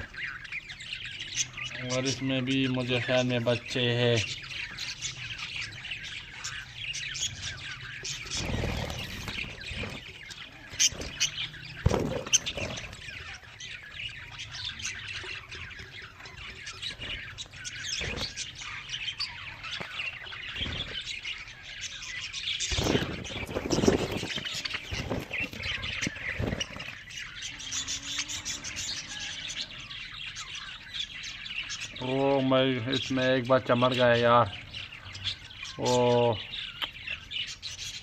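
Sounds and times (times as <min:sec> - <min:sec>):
budgerigars chirping and chattering: 0:00.0 - 0:38.0.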